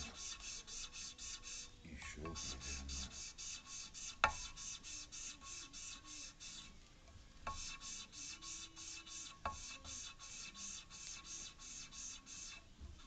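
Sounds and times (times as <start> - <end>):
scratchy valve grinding: 0.0 - 6.8, 7.5 - 12.6.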